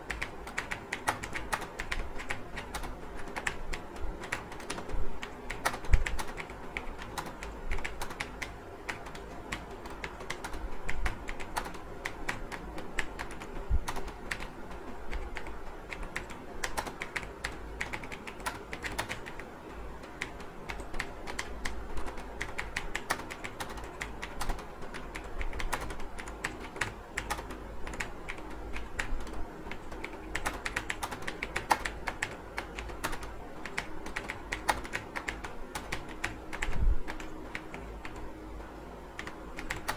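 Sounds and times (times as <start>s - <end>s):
fast keyboard typing: 0.0s - 38.3s, 39.2s - 39.9s
faint low hum: 0.0s - 39.9s.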